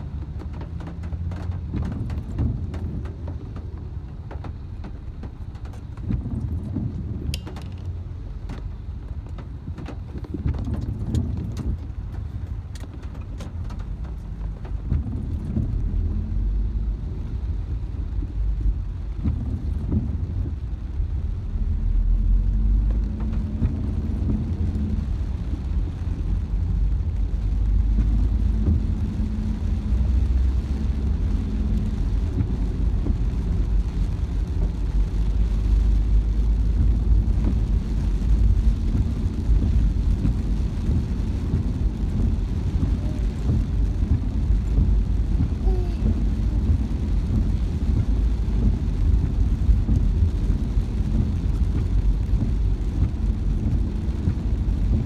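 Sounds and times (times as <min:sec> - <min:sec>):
car driving on wet road: 0:00.0 - 0:55.0.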